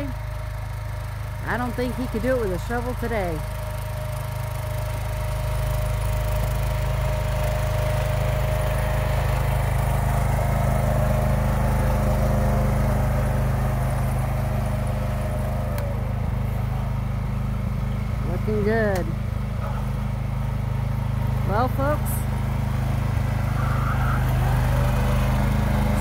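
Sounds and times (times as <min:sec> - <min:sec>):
garden tractor engine running: 0:00.0 - 0:26.0.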